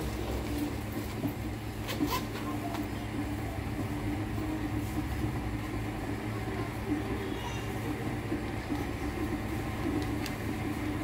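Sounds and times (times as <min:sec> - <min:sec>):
low mechanical rumble and hum: 0:00.0 - 0:11.0.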